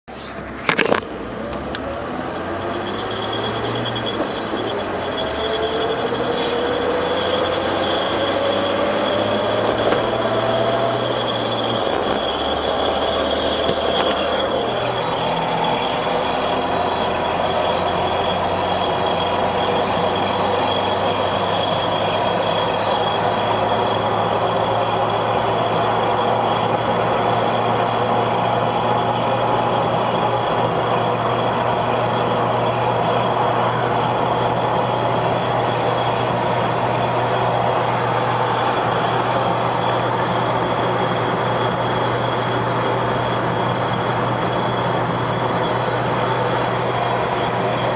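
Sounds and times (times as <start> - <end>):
vehicle engine running: 0.0 - 47.9
high-pitched whine: 0.1 - 47.9.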